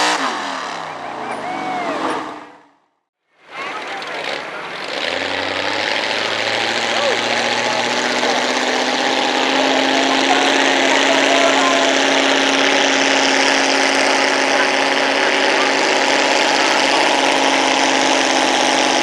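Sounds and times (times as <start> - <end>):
loud truck engine running: 0.0 - 2.8, 3.4 - 19.0.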